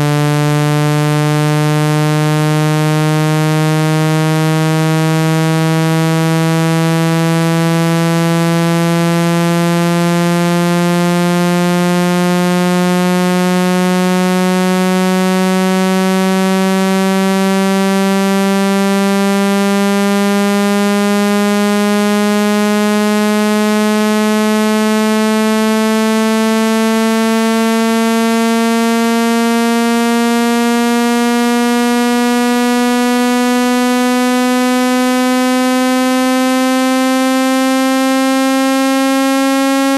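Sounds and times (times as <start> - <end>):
buzzy electronic tone rising: 0.0 - 39.9.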